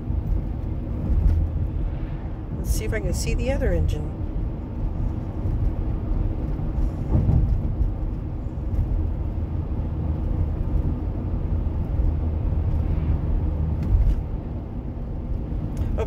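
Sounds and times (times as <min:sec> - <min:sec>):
car tyres and engine rumble: 0:00.0 - 0:16.0.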